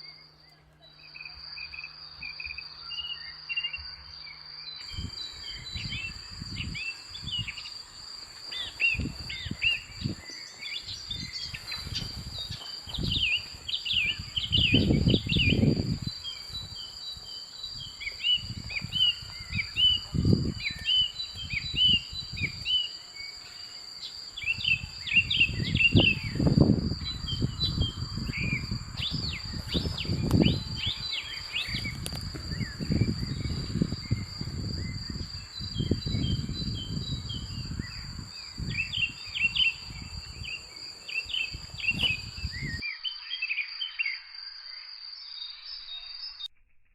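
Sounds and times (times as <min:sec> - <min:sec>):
high-pitched insect drone: 0:00.0 - 0:46.5
small birds chirping: 0:00.0 - 0:46.5.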